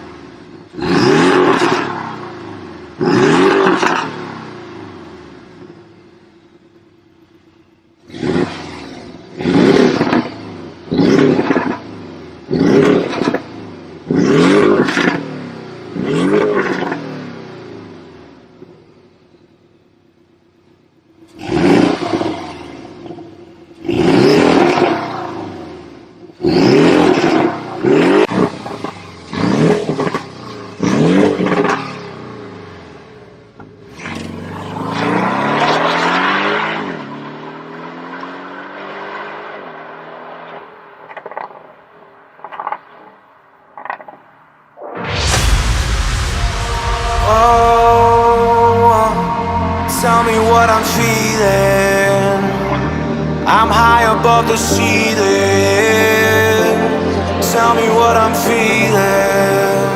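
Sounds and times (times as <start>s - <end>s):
car engine revving: 0.0s - 6.0s, 8.0s - 18.4s, 21.2s - 40.4s, 44.8s - 59.9s.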